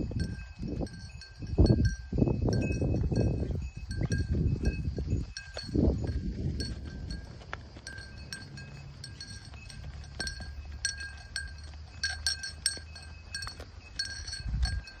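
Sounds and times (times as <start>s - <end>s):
cow bell clanking: 0.0s - 15.0s.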